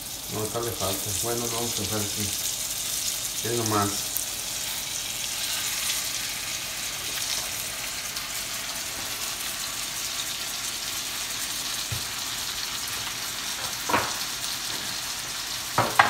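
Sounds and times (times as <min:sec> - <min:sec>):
steaks sizzling in skillet: 0:00.0 - 0:16.0.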